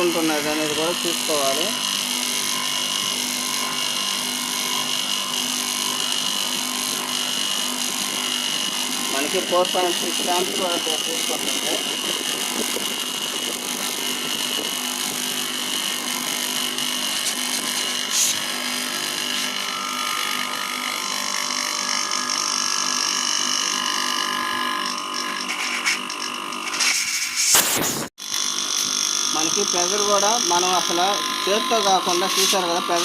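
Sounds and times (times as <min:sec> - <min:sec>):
compressor motor drone: 0:00.0 - 0:33.0.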